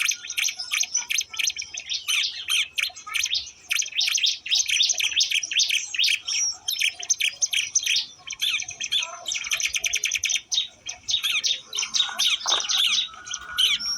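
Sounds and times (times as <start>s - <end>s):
birds chirping and trilling: 0.0s - 13.9s.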